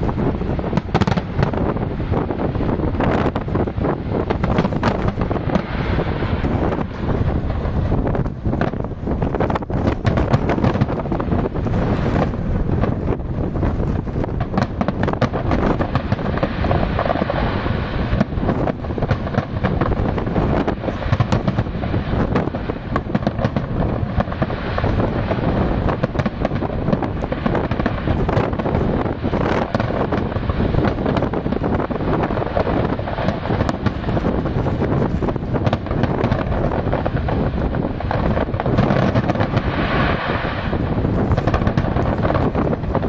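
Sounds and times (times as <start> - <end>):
fireworks bangs and crackles: 0.0 - 43.0
wind buffeting microphone: 0.0 - 43.0.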